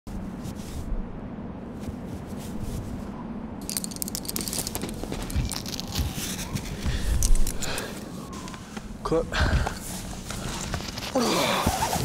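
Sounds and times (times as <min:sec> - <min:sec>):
shoe rustling and scraping: 0:00.1 - 0:08.9, 0:09.6 - 0:12.0.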